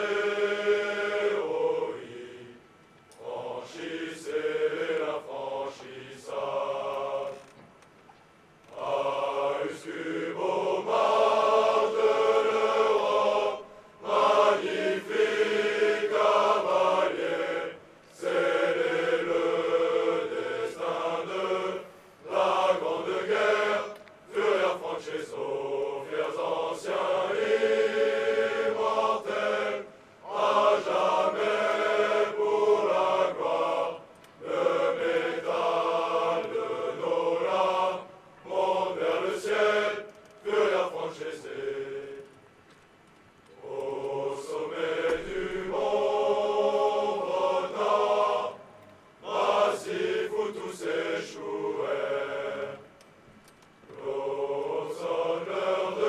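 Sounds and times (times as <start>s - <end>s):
male choir singing: 0.0s - 7.5s, 8.7s - 42.4s, 43.6s - 52.9s, 53.9s - 56.0s.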